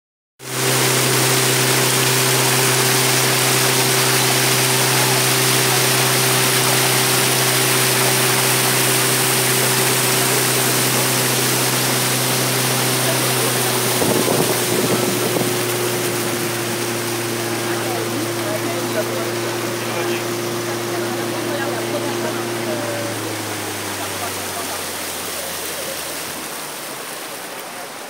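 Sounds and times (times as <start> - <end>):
outboard motor hum: 0.4 - 28.0
water rushing along hull: 0.4 - 28.0.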